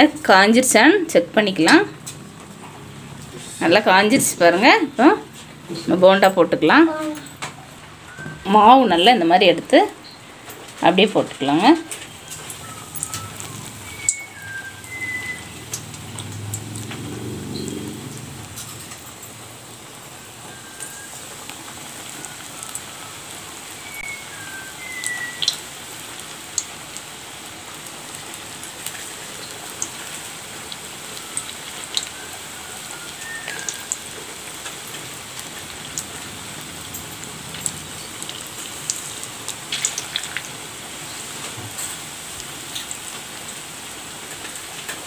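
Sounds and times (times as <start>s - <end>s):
batter balls deep-frying in oil: 0.0s - 45.0s.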